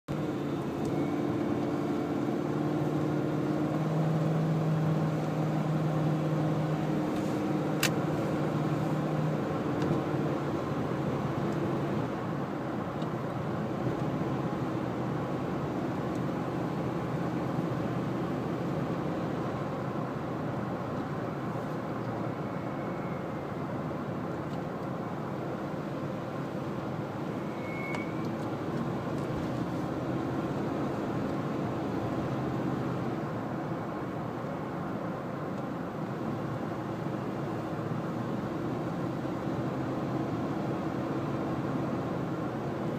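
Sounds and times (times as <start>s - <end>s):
road noise: 0.1s - 42.9s.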